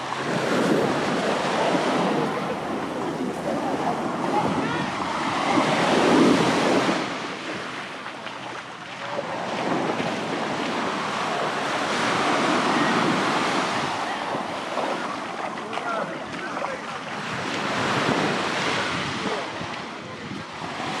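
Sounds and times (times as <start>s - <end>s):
sea waves washing onto beach: 0.0s - 21.0s
wind buffeting microphone: 0.0s - 21.0s.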